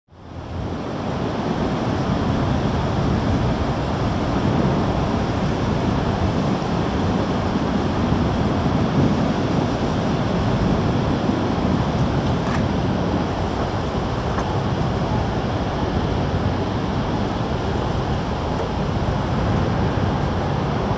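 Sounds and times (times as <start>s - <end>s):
wind rumbling on microphone: 0.1s - 20.9s.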